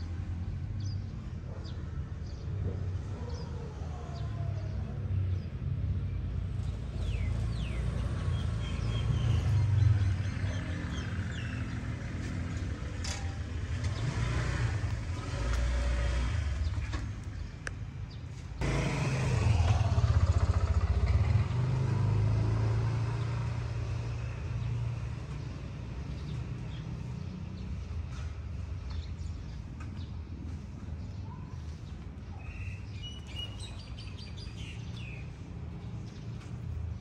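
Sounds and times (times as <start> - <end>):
motor vehicle engines rumbling: 0.0 - 37.0.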